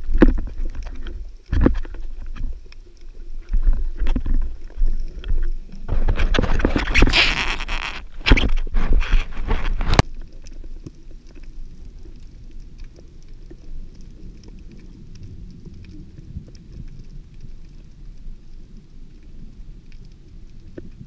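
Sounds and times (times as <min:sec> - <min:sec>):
faint underwater clicks: 0:00.0 - 0:21.0
low underwater rumble: 0:00.0 - 0:21.0
water splashing and sloshing: 0:00.0 - 0:21.0.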